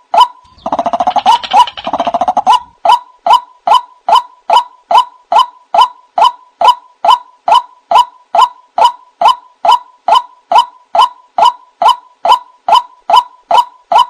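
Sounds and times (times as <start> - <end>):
waterhen calling harsh notes: 0.4 - 14.0.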